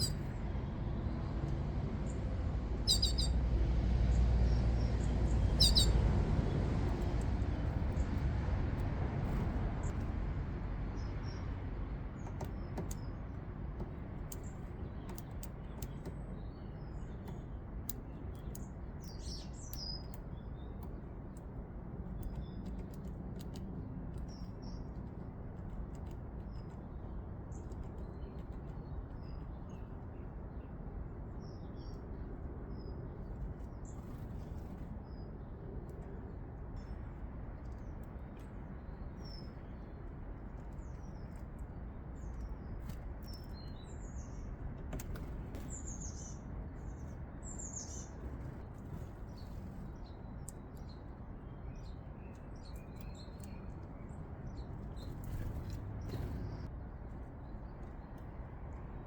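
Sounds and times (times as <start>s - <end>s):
small birds chirping: 0.0s - 10.1s, 10.8s - 59.0s
low background rumble: 0.0s - 59.0s.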